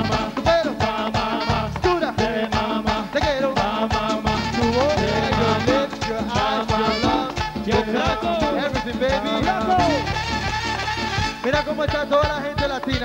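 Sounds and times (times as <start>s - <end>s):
live dance band playing: 0.0s - 13.0s.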